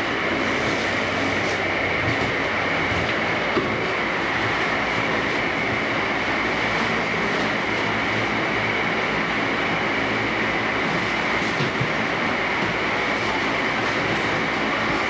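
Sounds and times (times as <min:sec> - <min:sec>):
concrete pump mechanical drone: 0:00.0 - 0:15.0.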